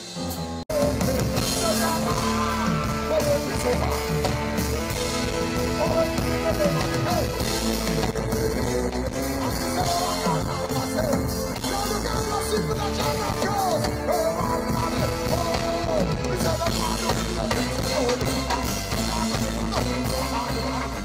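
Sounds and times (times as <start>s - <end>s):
live band music: 0.0s - 21.0s
person singing: 0.0s - 21.0s.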